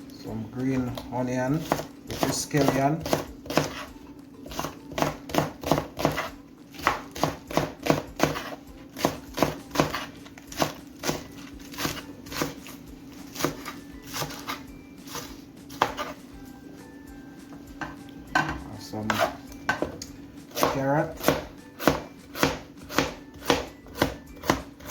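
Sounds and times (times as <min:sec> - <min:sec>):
knife chopping on cutting board: 0:01.6 - 0:16.2, 0:17.8 - 0:24.9.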